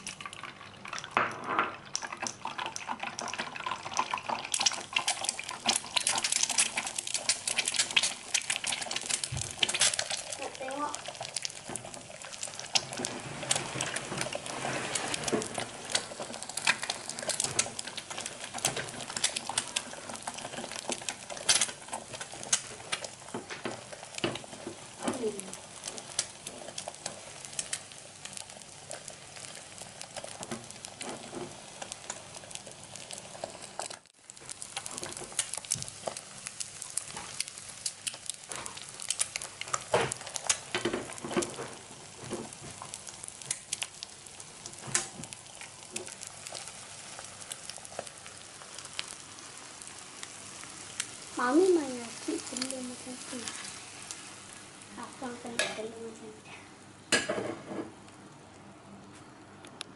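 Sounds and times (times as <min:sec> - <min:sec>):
egg sizzling in oil: 0:00.0 - 0:58.7
sharp crackles and pops: 0:00.0 - 0:59.9.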